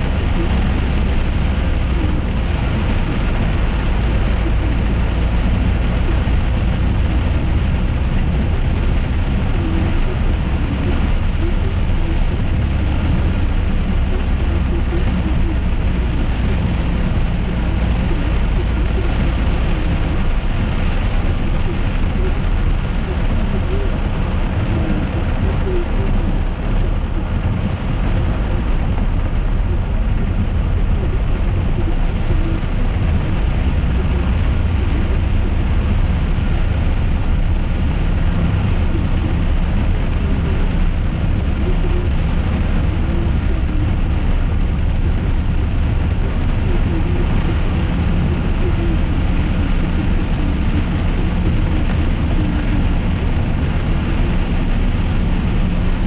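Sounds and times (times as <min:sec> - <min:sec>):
car engine and tyre rumble: 0:00.0 - 0:56.0
rain on car bodywork: 0:00.0 - 0:56.0.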